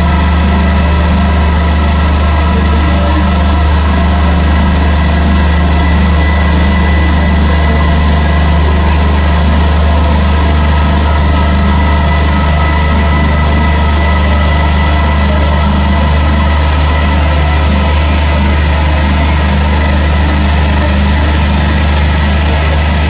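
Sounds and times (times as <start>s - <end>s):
cnc machine humming: 0.0s - 23.0s
steady high tone: 0.0s - 23.0s.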